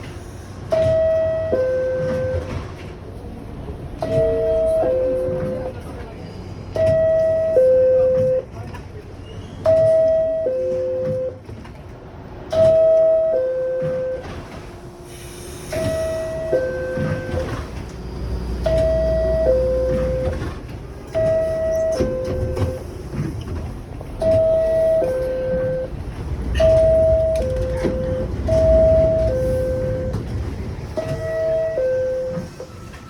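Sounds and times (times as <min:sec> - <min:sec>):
train noise: 0:00.0 - 0:33.0.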